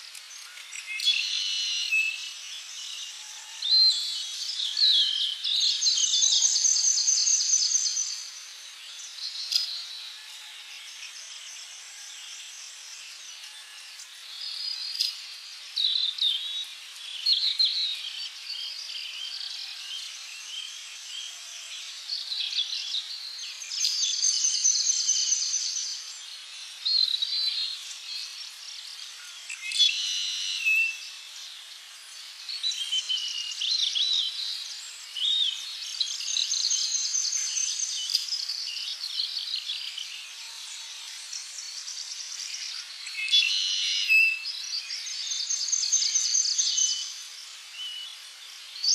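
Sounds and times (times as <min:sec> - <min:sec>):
birds singing and calling: 0:00.0 - 0:48.9
faint steady insect hiss: 0:00.0 - 0:48.9.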